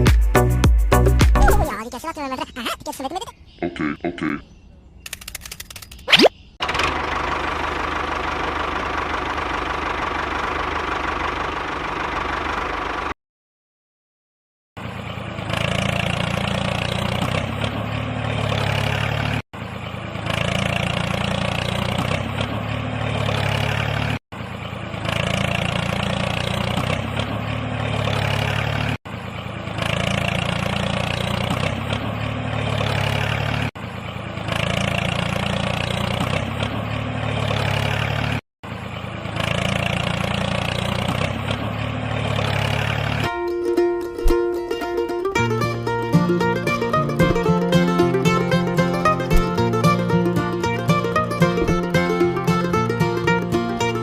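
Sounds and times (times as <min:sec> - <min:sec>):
engine running: 0:06.6 - 0:13.2, 0:14.8 - 0:54.0.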